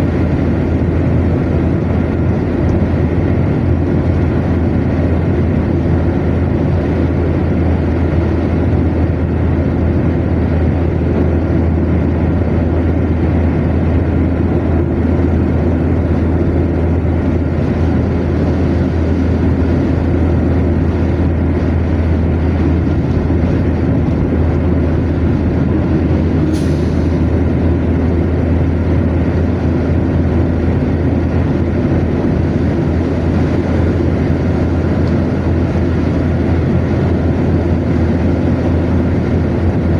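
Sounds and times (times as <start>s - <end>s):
car driving at speed: 0.0s - 39.9s.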